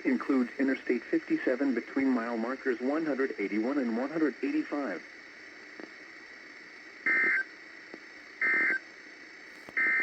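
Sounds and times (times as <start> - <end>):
faint receiver hiss: 0.0 - 10.0.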